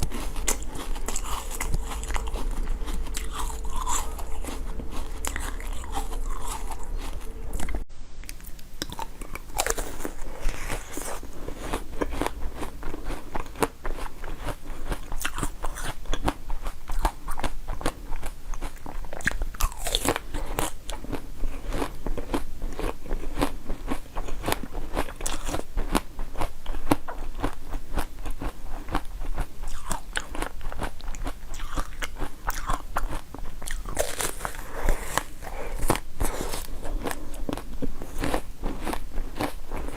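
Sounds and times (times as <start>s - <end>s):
chewing crisp food: 0.0s - 39.9s.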